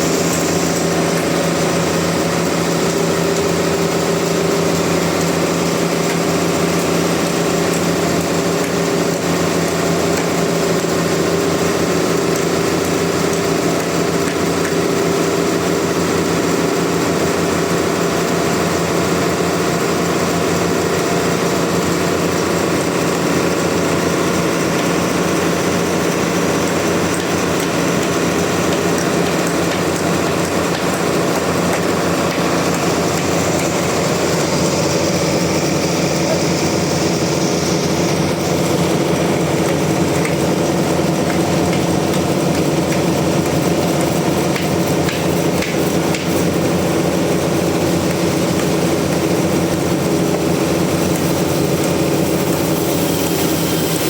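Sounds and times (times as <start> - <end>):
sawmill saw droning: 0.0 - 54.0.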